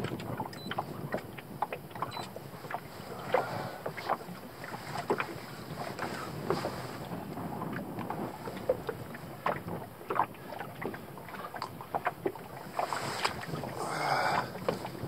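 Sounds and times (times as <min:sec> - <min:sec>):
waves slapping against a canoe: 0:00.0 - 0:15.0.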